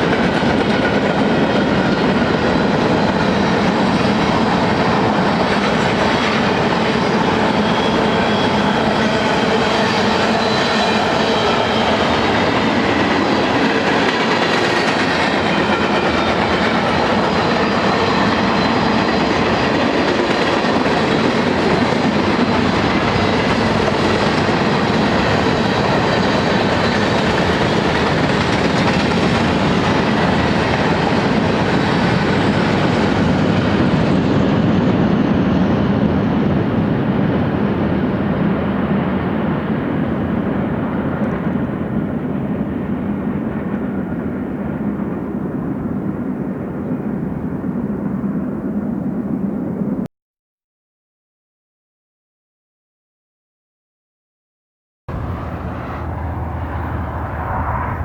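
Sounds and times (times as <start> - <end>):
freight train wheels rumbling: 0.0 - 50.0, 55.1 - 58.0.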